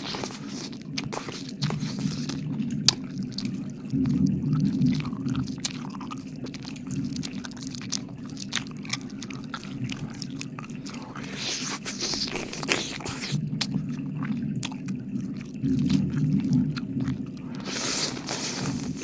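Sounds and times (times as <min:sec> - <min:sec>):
steady low hum: 0:00.0 - 0:19.0
wet mouth licking and smacking: 0:00.0 - 0:19.0.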